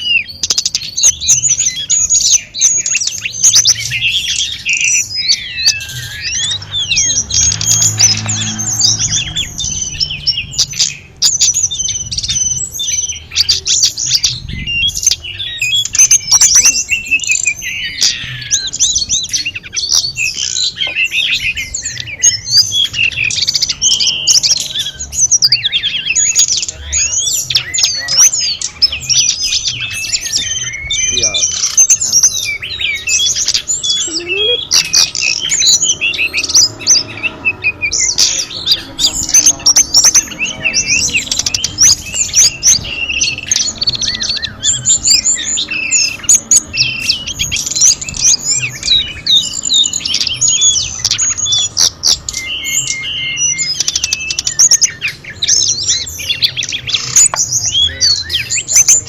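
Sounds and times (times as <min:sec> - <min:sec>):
bird singing chirps and trills: 0:00.0 - 0:59.0.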